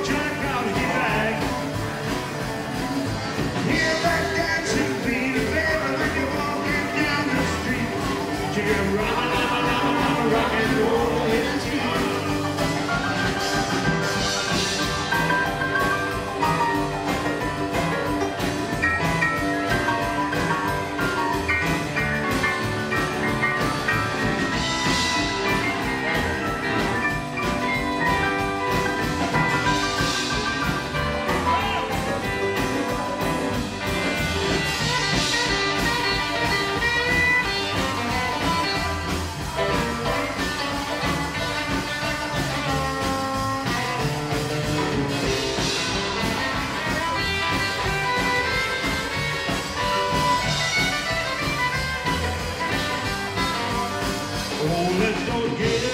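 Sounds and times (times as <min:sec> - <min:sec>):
rockabilly band playing: 0:00.0 - 0:55.9.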